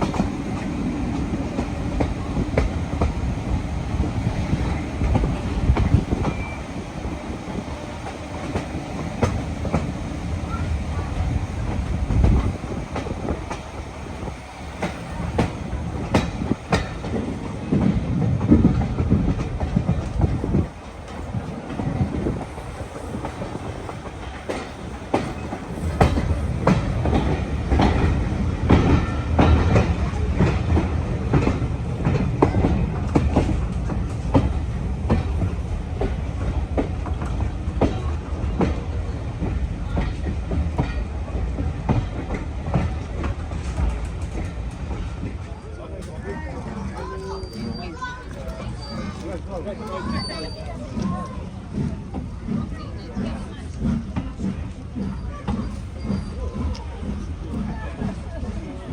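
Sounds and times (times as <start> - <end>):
train rumbling on track: 0.0 - 58.9
wheels clicking over rail joints: 0.0 - 58.9.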